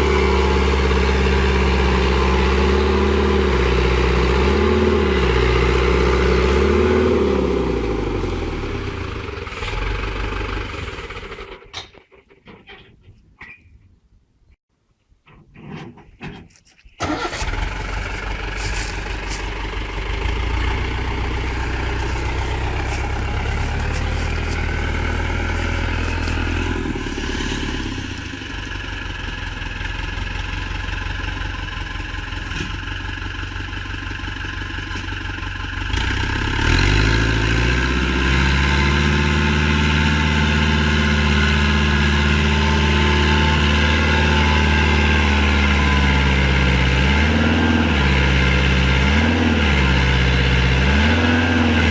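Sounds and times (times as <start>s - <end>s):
tractor engine running: 0.0s - 12.9s, 16.9s - 51.9s.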